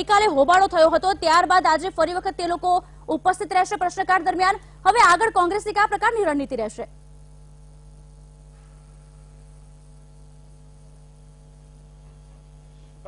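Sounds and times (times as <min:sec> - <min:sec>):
mains hum: 0:00.0 - 0:13.0.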